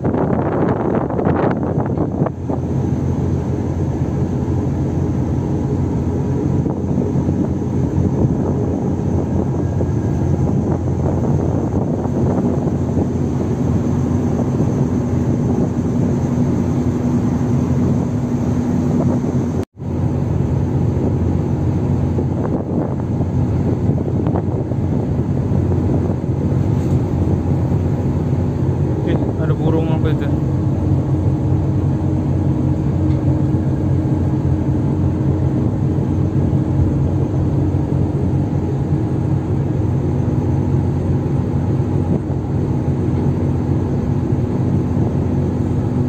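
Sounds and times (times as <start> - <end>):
diesel engines droning: 0.0 - 46.0.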